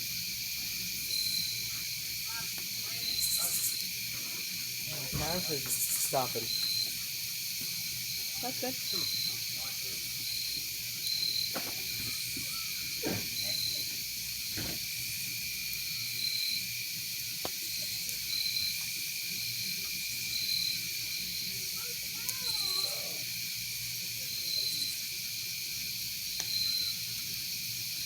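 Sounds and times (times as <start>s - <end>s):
night insects trilling: 0.0s - 28.0s
campfire crackling and popping: 0.1s - 28.0s.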